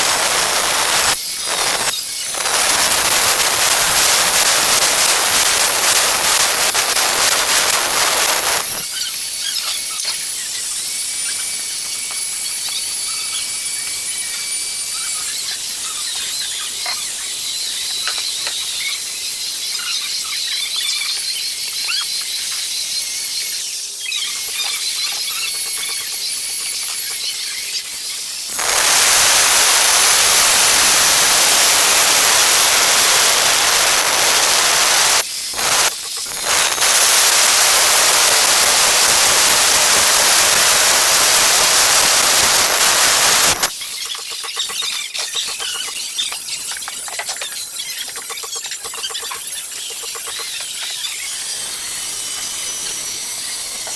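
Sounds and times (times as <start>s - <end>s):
angle grinder cutting tile: 0.0s - 18.8s, 24.3s - 53.9s
high-pitched squealing whine: 0.0s - 53.9s.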